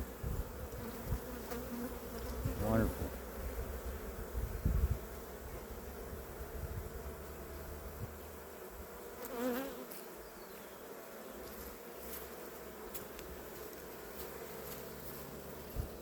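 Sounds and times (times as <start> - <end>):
bees humming: 0.0 - 16.0.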